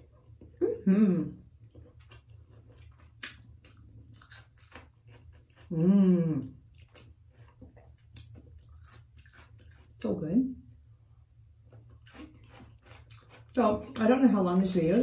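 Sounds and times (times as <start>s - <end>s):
person chewing with wet mouth sounds: 0.0s - 10.1s, 10.7s - 15.0s.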